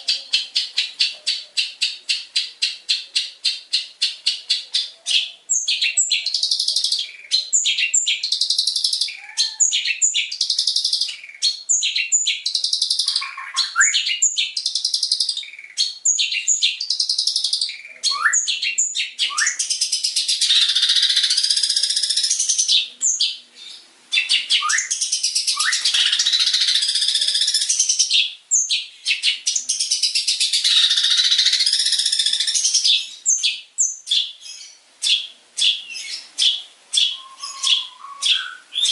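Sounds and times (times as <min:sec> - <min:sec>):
shrike singing chattering song: 0:00.0 - 0:38.9.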